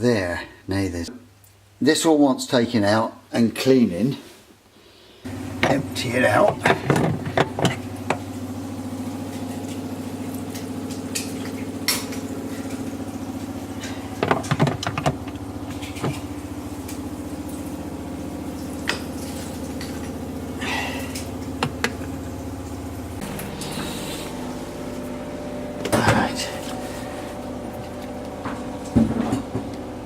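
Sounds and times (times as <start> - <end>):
steady low hum: 4.8 - 30.0.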